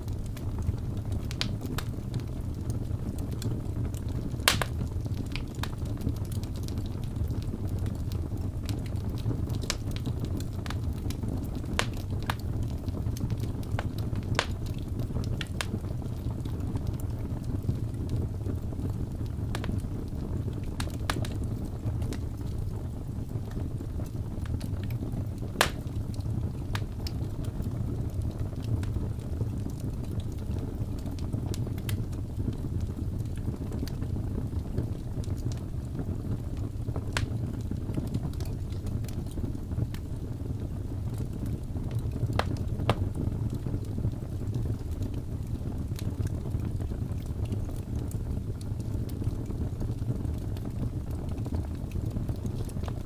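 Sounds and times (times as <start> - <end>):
fire crackling and popping: 0.0 - 53.0
wood fire rumbling: 0.0 - 53.0.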